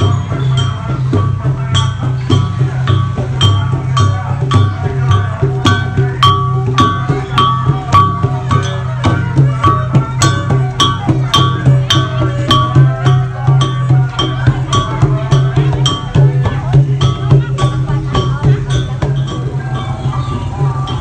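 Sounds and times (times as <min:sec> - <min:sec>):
clicking percussion: 0:00.0 - 0:21.0.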